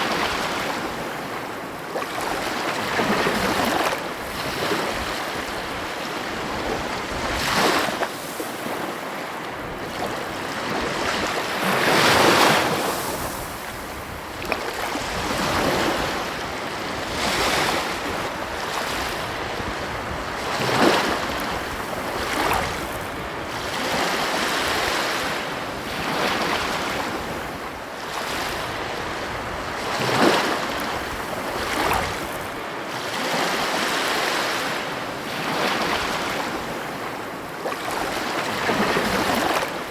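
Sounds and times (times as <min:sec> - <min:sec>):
ocean waves crashing on beach: 0:00.0 - 0:39.9.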